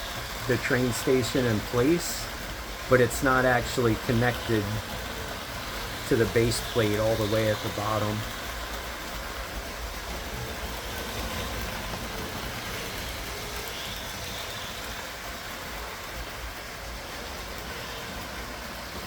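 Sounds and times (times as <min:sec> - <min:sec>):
toy train motor hum: 0:00.0 - 0:19.0
wheels rumbling on plastic track: 0:00.0 - 0:19.0.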